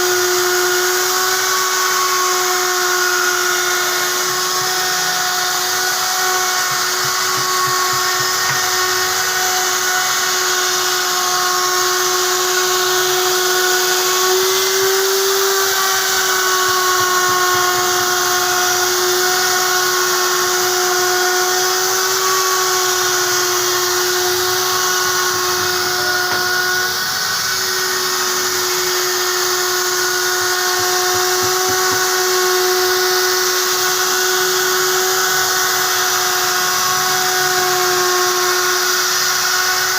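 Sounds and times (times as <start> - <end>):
wood router whining: 0.0 - 39.9.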